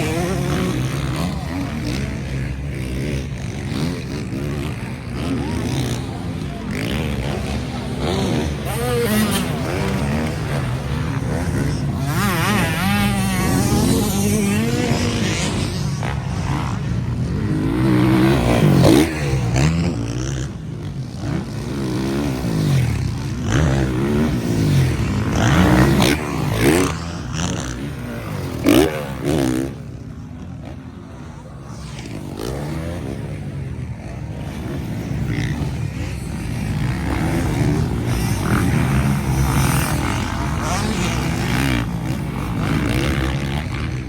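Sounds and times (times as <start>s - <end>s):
motocross bikes revving: 0.0s - 44.0s.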